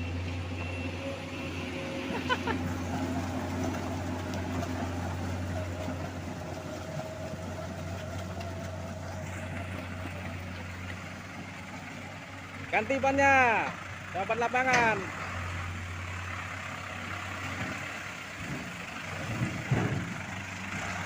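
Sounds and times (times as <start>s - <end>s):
heavy diesel engines running: 0.0s - 21.0s.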